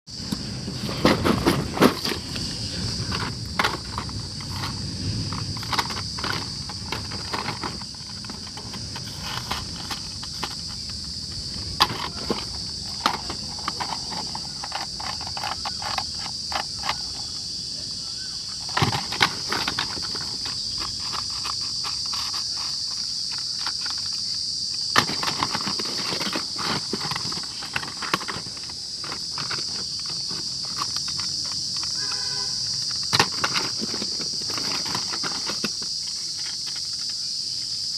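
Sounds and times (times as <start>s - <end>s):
high-pitched insect chorus: 0.1s - 37.9s
plastic toy vehicles clicking: 0.2s - 37.9s.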